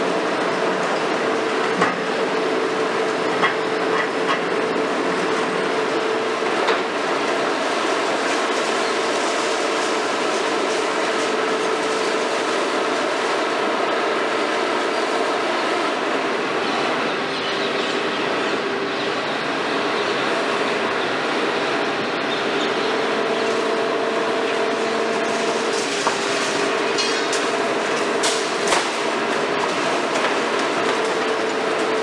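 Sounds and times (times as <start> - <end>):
excavator engine and hydraulics: 0.0 - 32.0
steady mechanical whine: 0.0 - 32.0.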